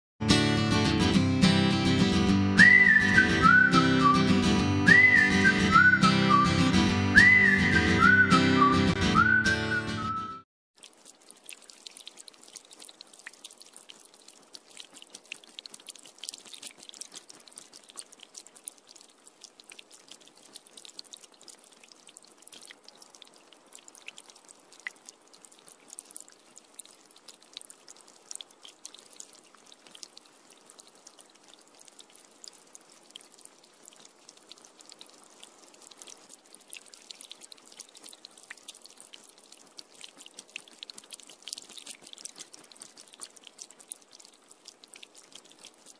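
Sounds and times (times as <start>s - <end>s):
rain on an umbrella: 2.6s - 4.2s, 4.9s - 6.4s, 10.8s - 45.9s.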